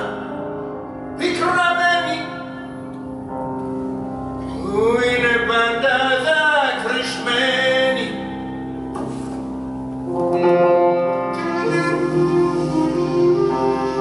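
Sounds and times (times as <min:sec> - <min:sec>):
piano: 0:00.0 - 0:14.0.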